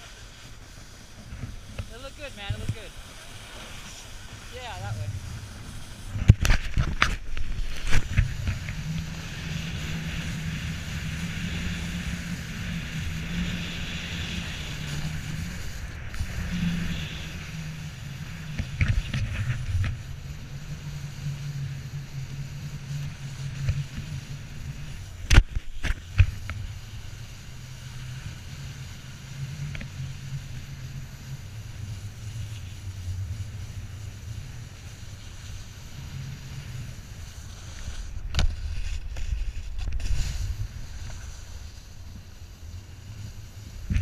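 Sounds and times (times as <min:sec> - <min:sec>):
snowboard scraping over snow: 0:00.0 - 0:44.0
wind on microphone: 0:00.0 - 0:44.0.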